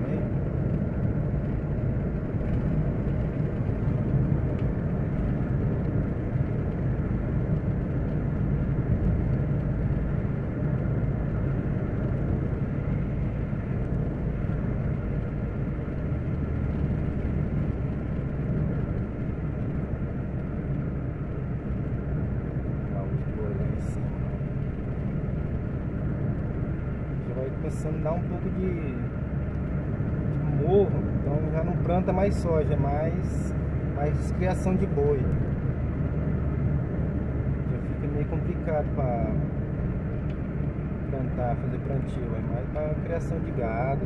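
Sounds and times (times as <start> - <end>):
car cabin road rumble: 0.0 - 44.0.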